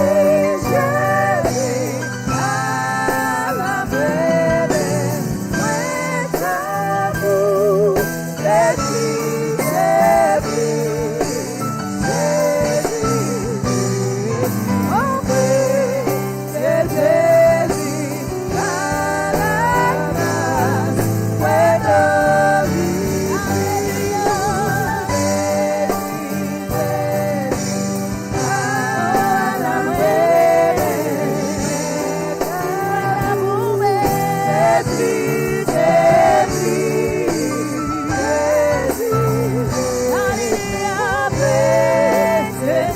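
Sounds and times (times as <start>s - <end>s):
instrumental accompaniment: 0.0s - 42.9s
voices singing gospel: 0.0s - 42.9s.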